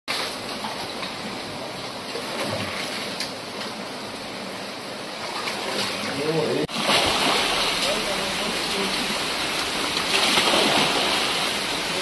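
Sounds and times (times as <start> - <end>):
floodwater rushing: 0.1 - 12.0.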